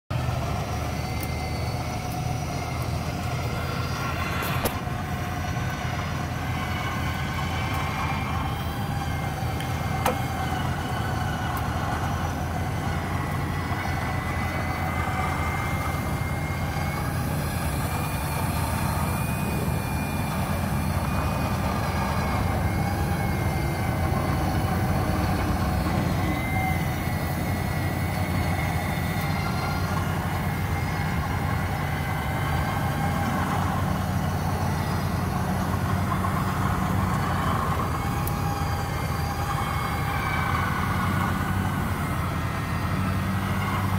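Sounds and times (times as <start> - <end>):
truck engine running: 0.0 - 43.9
winch whining: 0.1 - 43.9.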